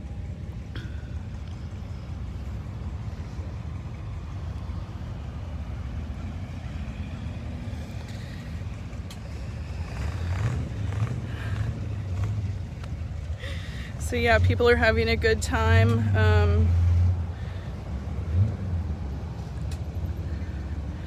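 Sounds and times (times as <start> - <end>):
cars and trucks driving past: 0.0 - 21.0.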